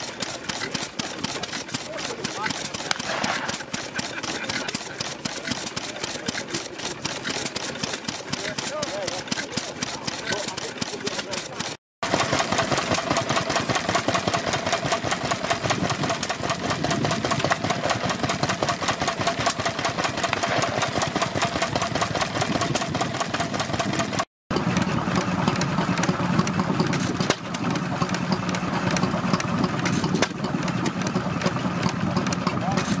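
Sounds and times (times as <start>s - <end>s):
stationary engine clattering: 0.0s - 33.0s
stationary engine humming: 0.0s - 33.0s.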